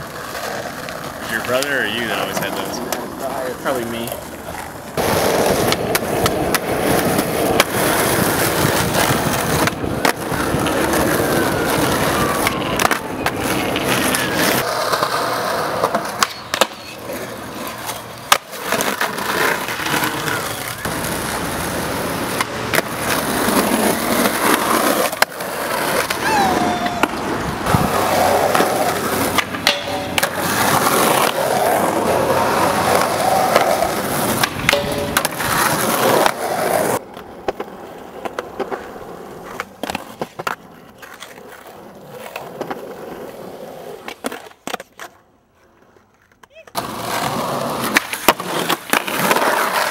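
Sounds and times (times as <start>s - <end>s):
skateboard clacking on ground: 0.0s - 49.9s
skateboard wheels rolling: 0.0s - 49.9s.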